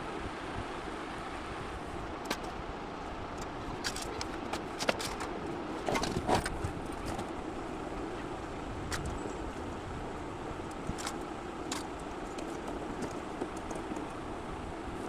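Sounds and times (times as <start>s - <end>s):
steady background rumble: 0.0s - 15.0s.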